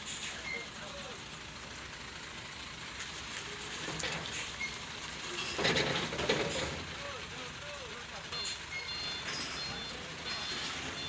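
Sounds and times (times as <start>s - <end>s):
excavator engine rumbling: 0.0s - 11.0s.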